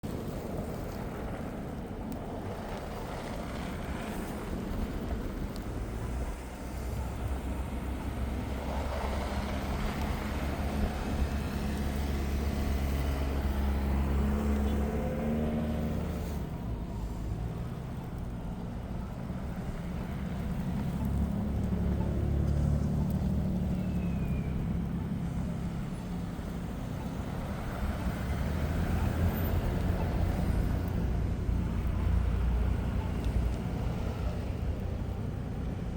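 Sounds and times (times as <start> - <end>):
traffic rumble: 0.0 - 35.9
vehicle engine hum: 0.0 - 35.9.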